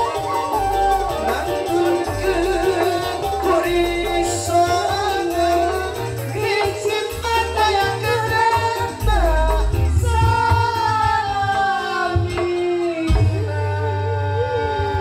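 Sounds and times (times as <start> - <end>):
band with rhythmic bass line: 0.0 - 15.0
person singing into a microphone: 0.0 - 15.0.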